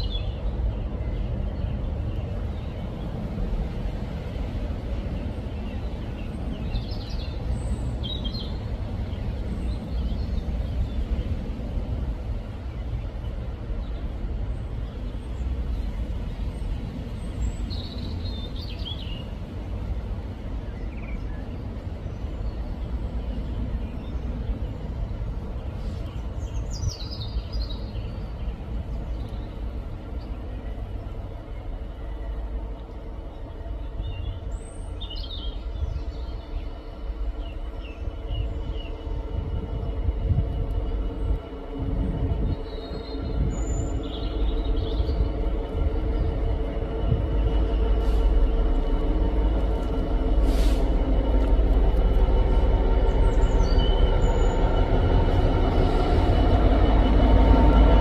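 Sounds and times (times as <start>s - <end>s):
birds chirping: 0.0s - 58.0s
diesel locomotive engine rumble: 0.0s - 58.0s.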